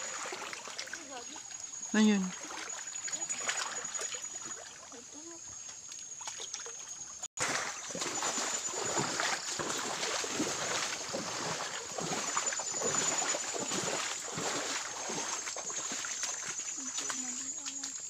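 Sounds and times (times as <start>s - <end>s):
footsteps wading through water: 0.0s - 18.0s
water splashing and sloshing: 0.0s - 18.0s.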